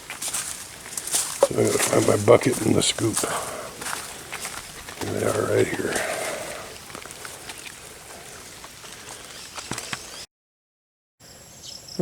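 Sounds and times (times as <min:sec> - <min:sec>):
crickets chirping: 0:00.0 - 0:10.2
outdoor background noise: 0:00.0 - 0:10.3, 0:11.2 - 0:12.0.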